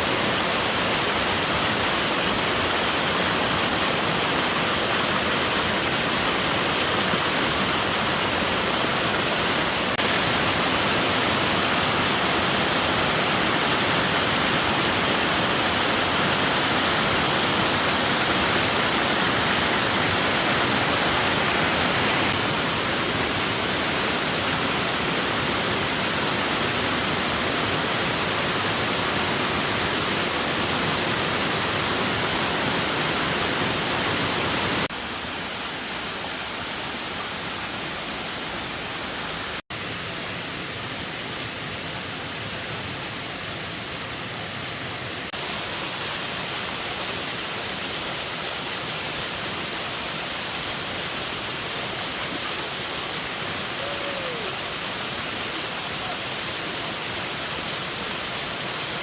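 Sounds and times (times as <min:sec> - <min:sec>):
rushing water hiss: 0:00.0 - 0:59.0.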